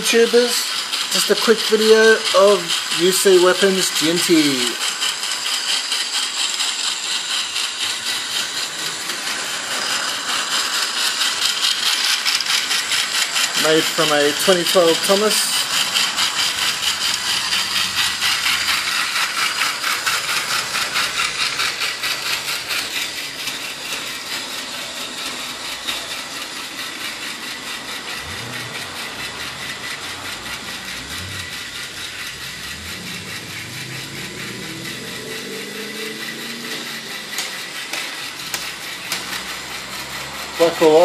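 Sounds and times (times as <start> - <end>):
toy train motor whirring: 0.0 - 41.0.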